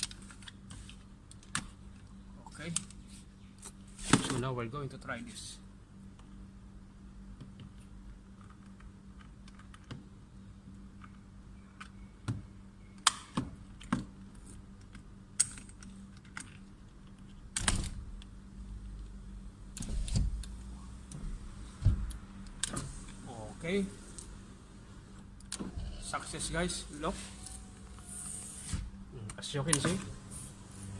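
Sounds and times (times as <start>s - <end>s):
faint hum: 0.0s - 30.9s.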